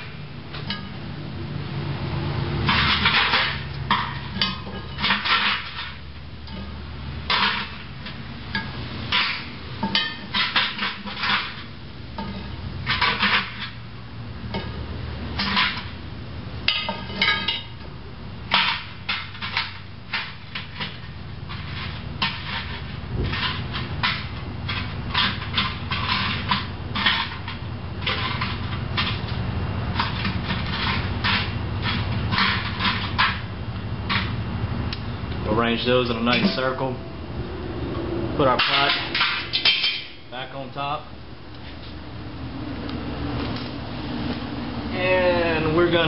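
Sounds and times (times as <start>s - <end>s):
metal tongs scraping charcoal: 0.0s - 1.0s, 2.6s - 16.0s, 16.6s - 34.4s, 35.0s - 37.2s, 38.4s - 41.0s.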